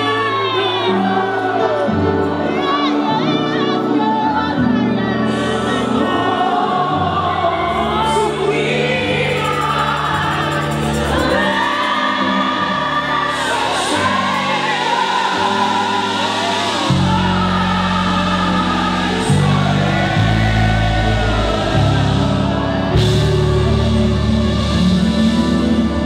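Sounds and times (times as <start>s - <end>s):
crowd singing along: 0.0s - 26.0s
keyboard and bass chords: 0.0s - 26.0s
person singing: 0.0s - 26.0s.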